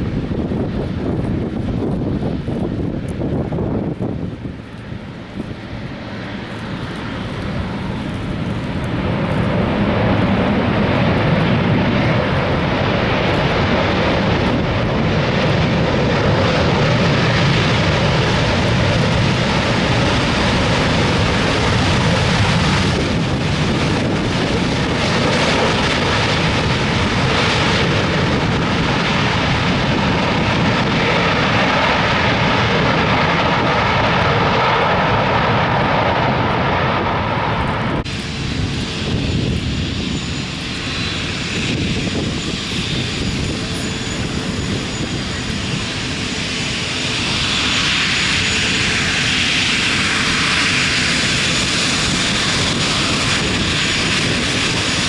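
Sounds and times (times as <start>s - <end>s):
jet engine rumble and hiss: 0.0s - 55.0s.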